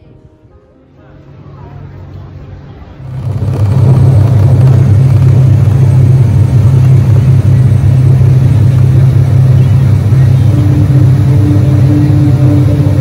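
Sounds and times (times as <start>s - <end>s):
machinery droning: 0.9s - 13.0s
rushing noise: 2.0s - 13.0s.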